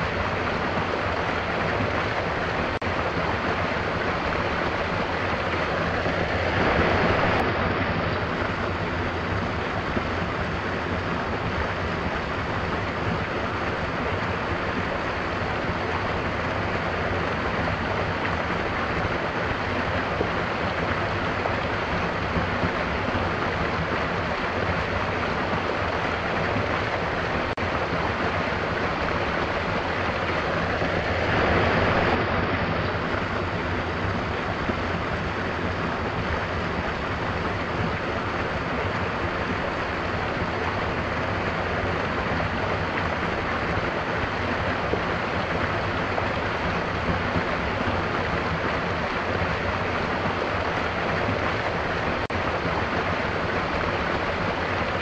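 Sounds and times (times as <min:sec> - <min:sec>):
stream splashing over rocks: 0:00.0 - 0:55.0.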